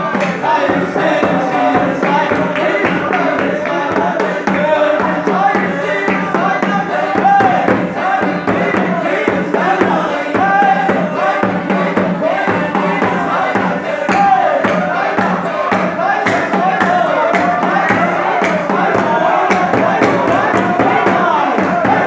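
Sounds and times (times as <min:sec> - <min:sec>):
congregation singing through speakers: 0:00.0 - 0:22.0
steady beat: 0:00.0 - 0:22.0.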